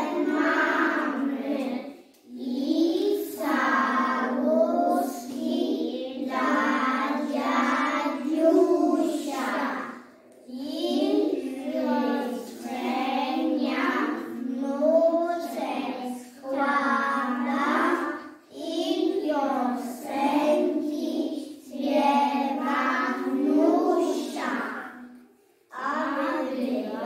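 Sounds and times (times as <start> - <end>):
children singing in unison: 0.0 - 27.0.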